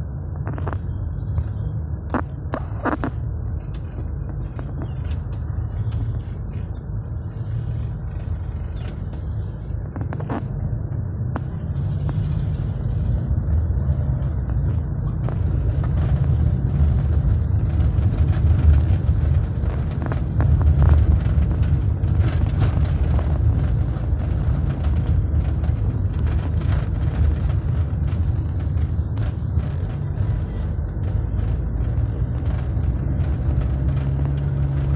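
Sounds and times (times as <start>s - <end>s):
vehicle engines rumbling: 0.0s - 34.9s.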